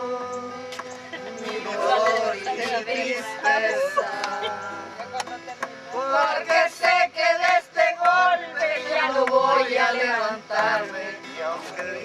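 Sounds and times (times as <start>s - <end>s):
acoustic guitar: 0.0s - 12.0s
people singing together: 0.0s - 12.0s.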